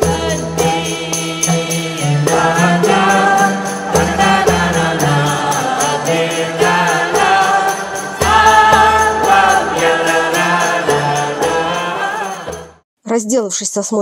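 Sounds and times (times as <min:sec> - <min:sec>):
background music with steady beat: 0:00.0 - 0:12.8.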